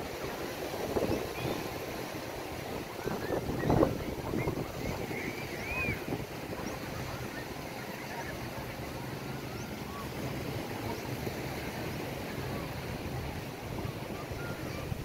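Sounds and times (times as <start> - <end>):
wind on microphone: 0.0 - 7.6, 9.1 - 15.0
small waves washing: 0.0 - 15.0
faint distant voices: 0.1 - 15.0.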